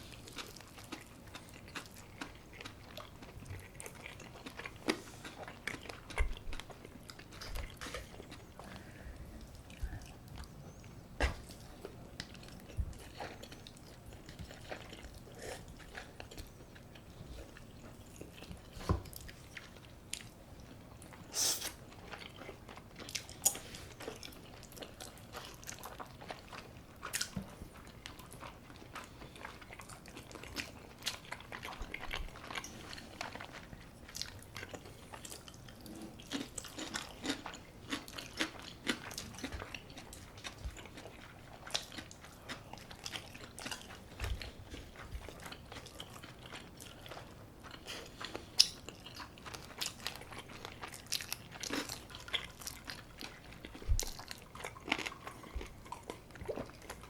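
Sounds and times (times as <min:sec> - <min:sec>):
crunching and chewing: 0:00.0 - 0:57.0.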